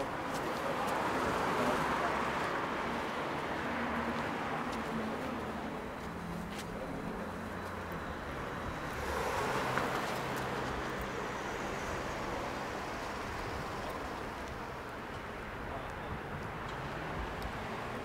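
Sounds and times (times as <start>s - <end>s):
vehicle passing: 0.0s - 14.8s
street traffic noise: 0.0s - 18.0s.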